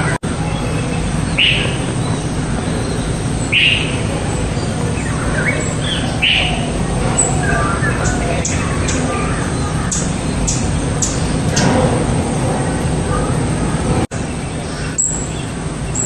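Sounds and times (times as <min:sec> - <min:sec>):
bird chirping: 0:00.0 - 0:12.0, 0:14.2 - 0:16.0
low background noise: 0:00.0 - 0:16.0.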